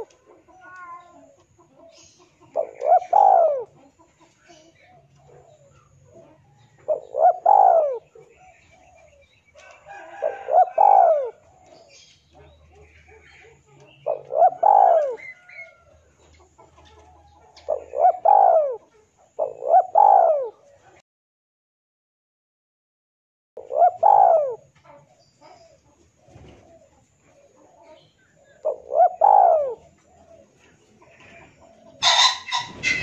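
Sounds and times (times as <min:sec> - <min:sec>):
dove cooing: 0:00.0 - 0:21.0, 0:23.6 - 0:33.0.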